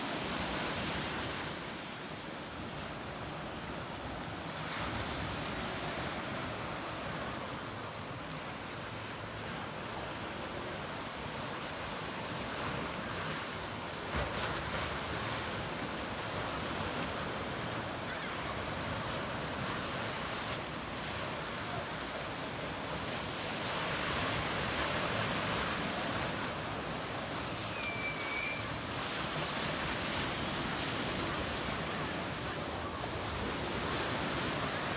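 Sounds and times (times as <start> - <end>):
waves washing onto shore: 0.0 - 34.9.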